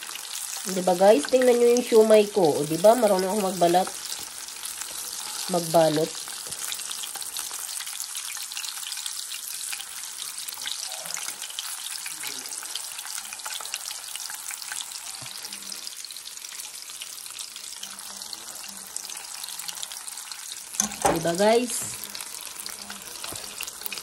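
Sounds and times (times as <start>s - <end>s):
dumplings sizzling in oil: 0.0s - 24.0s.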